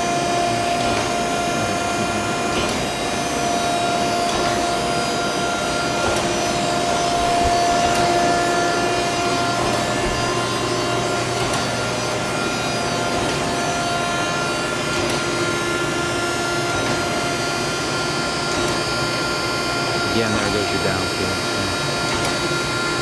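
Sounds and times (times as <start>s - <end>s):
grinding wheel whine: 0.0s - 23.0s.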